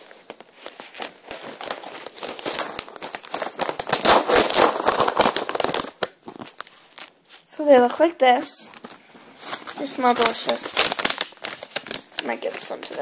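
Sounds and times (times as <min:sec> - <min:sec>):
packaging crinkling: 0:00.0 - 0:07.5, 0:08.7 - 0:13.0.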